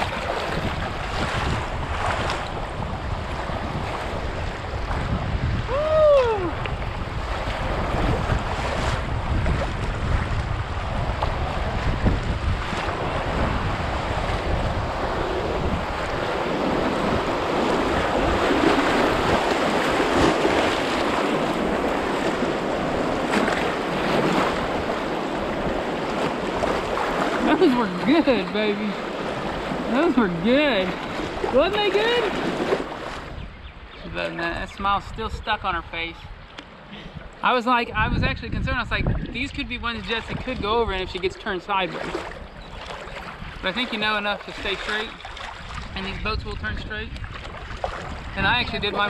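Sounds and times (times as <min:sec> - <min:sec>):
river water rushing and splashing: 0:00.0 - 0:33.4, 0:39.4 - 0:49.0
wind buffeting microphone: 0:00.0 - 0:49.0.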